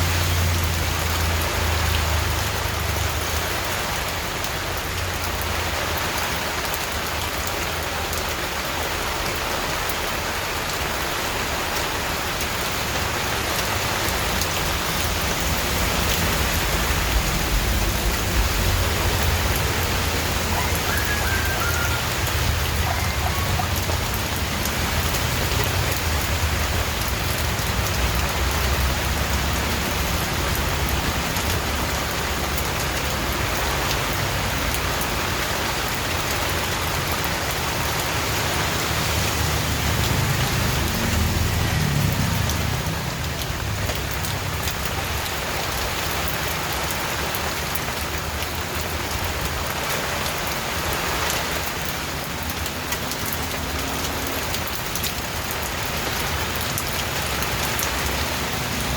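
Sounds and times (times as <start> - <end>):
heavy rain pattering: 0.0 - 58.9.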